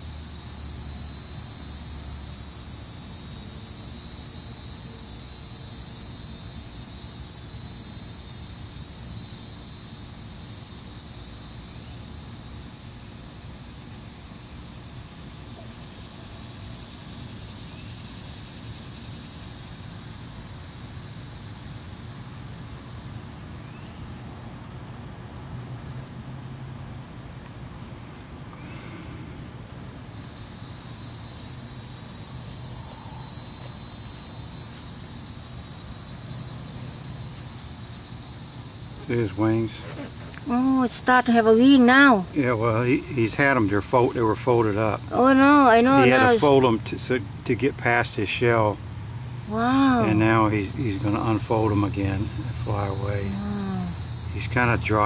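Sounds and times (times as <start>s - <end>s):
cicadas buzzing: 0.0s - 55.0s
pulsing high insect call: 0.0s - 55.0s.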